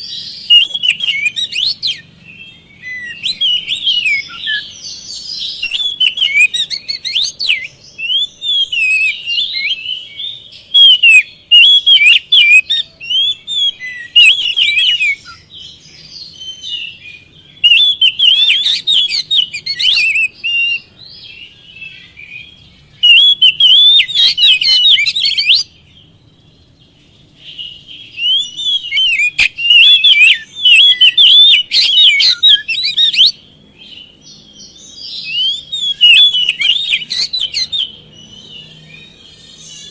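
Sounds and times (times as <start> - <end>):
bird singing whistles and clicks: 0.0 - 2.0, 2.7 - 25.7, 28.0 - 39.9.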